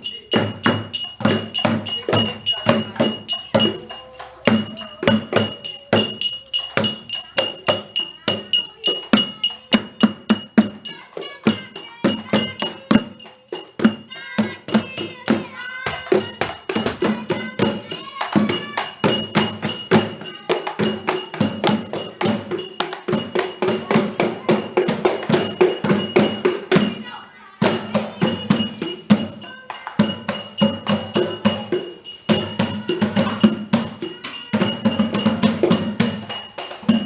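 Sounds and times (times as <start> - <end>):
drums beaten rhythmically: 0.0 - 37.0
tambourine jingles: 0.0 - 37.0
voices chanting: 0.0 - 37.0.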